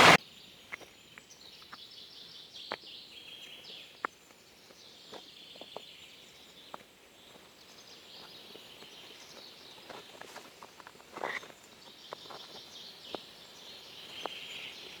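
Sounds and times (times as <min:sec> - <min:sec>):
small birds chirping and trilling: 0:00.0 - 0:15.0.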